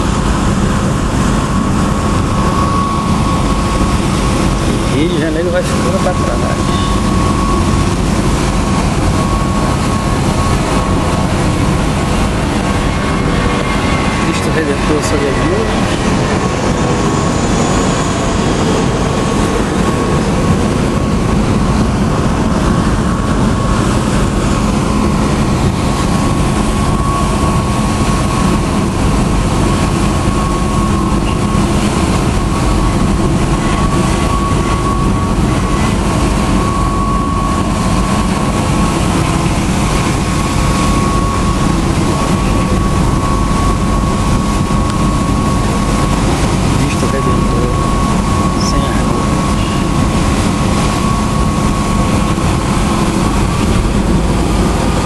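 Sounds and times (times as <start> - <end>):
constant high whine: 0.0 - 55.0
ferry engines droning: 0.0 - 55.0.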